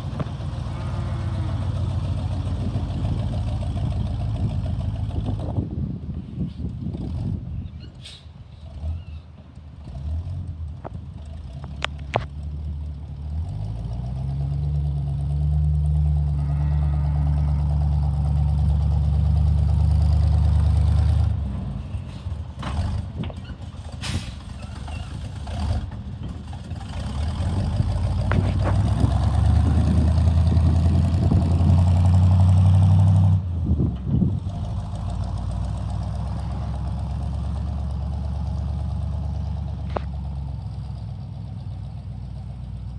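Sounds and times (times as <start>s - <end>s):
truck engine revving: 0.0s - 5.8s, 8.7s - 42.9s.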